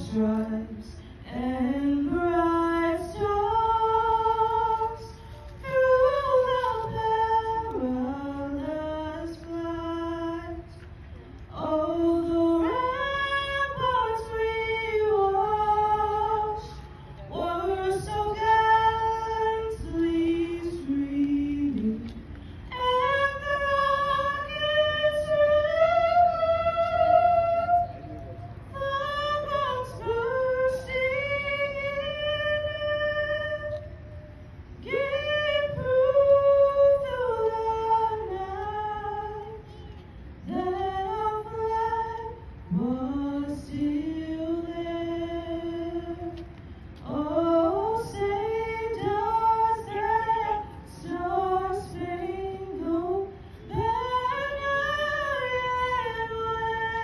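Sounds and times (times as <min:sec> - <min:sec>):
woman singing a cappella: 0:00.0 - 0:10.9, 0:11.5 - 0:34.2, 0:34.8 - 0:57.0.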